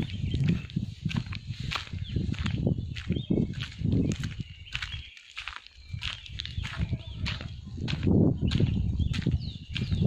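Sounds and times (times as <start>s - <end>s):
footsteps on rough ground: 0.0s - 10.0s
small birds chirping: 0.0s - 10.0s.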